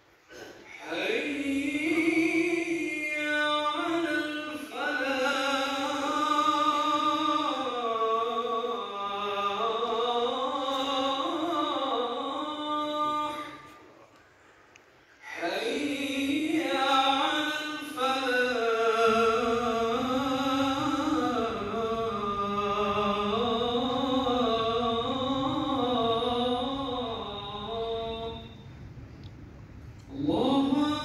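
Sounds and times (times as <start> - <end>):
man chanting melodic recitation: 0.7 - 14.1, 15.2 - 28.7, 30.0 - 31.0.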